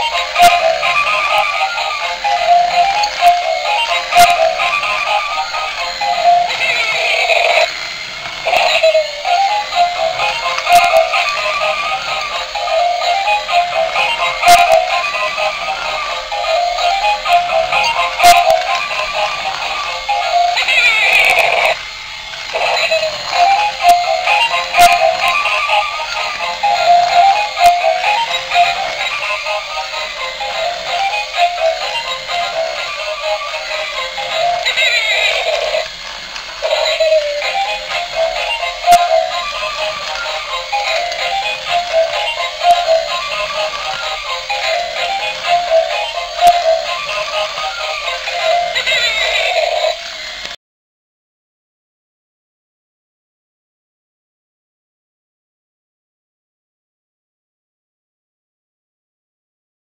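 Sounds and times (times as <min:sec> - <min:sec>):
toy playing electronic tune: 0:00.0 - 0:50.5.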